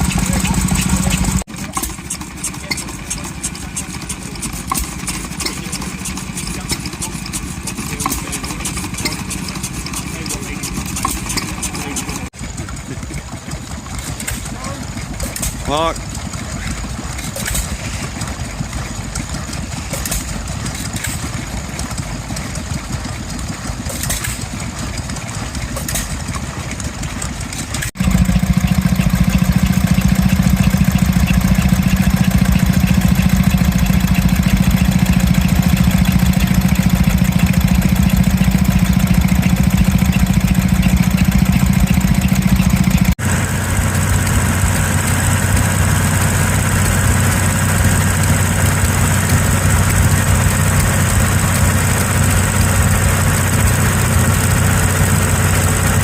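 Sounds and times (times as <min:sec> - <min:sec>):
engines running: 0:00.0 - 0:56.0.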